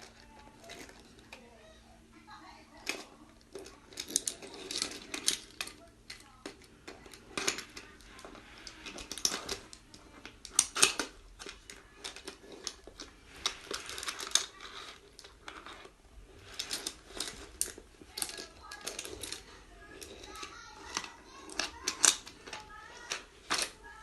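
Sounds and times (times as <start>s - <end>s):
toy train pieces clattering: 0.0s - 1.5s, 2.7s - 24.0s.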